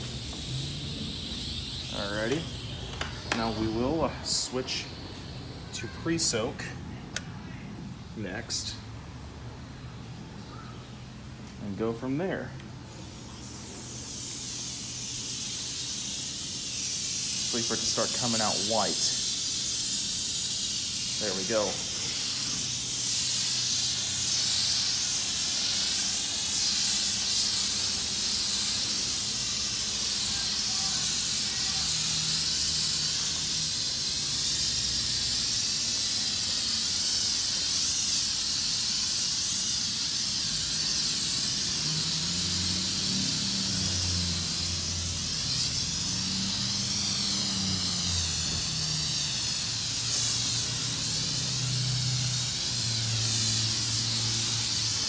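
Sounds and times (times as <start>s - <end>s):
spray wand hissing: 0.0s - 7.4s, 11.6s - 55.0s.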